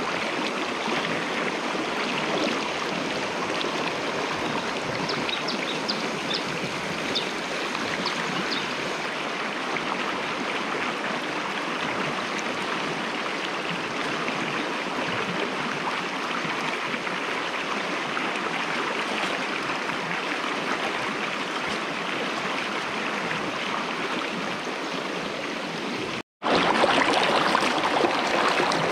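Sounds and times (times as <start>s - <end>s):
stream running over rocks: 0.0s - 28.9s.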